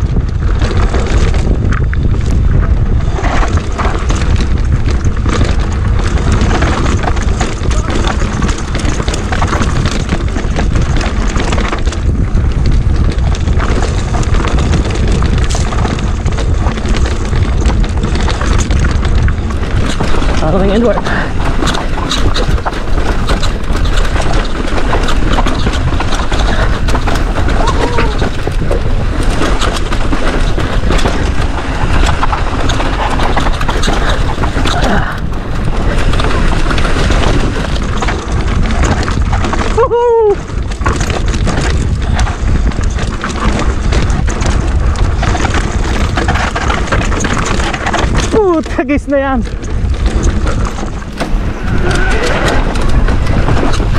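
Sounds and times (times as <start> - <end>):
bike clattering over rock: 0.0 - 53.9
wind buffeting microphone: 0.0 - 53.9
tyres crunching over stones: 0.1 - 53.9.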